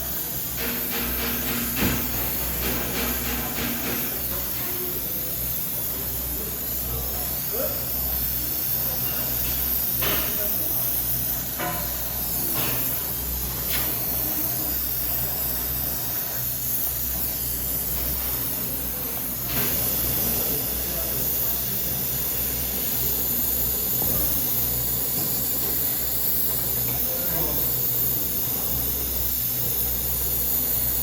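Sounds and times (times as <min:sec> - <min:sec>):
steady hissing: 0:00.0 - 0:31.0.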